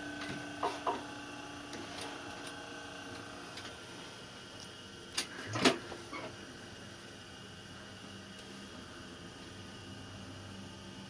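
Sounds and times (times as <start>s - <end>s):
faint electric hum: 0.0s - 11.0s.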